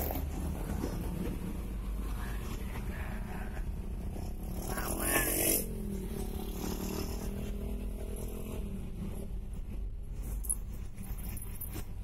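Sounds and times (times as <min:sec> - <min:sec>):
car engine hum: 0:00.0 - 0:12.0
road noise inside car: 0:00.0 - 0:12.0.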